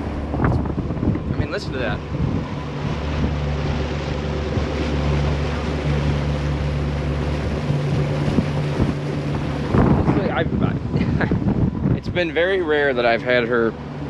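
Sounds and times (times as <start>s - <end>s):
boat engines droning: 0.0s - 14.0s
wind and water rushing: 0.0s - 14.0s.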